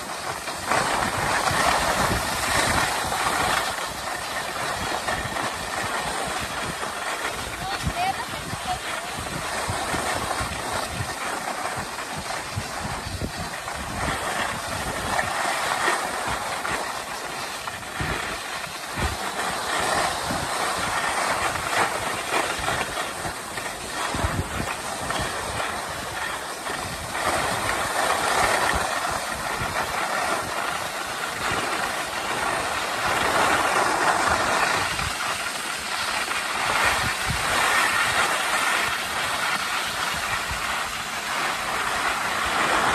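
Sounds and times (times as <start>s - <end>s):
skis scraping over snow: 0.0s - 42.9s
wind buffeting microphone: 0.0s - 42.9s.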